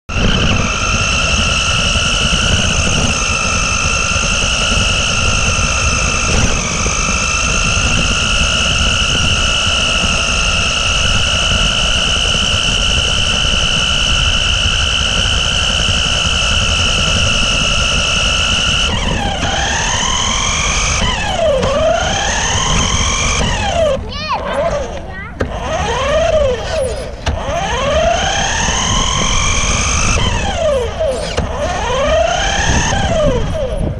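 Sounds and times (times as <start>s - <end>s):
wind: 0.0s - 33.9s
rc car motor whine: 0.1s - 33.9s
tyres rumbling on pavement: 0.1s - 33.9s.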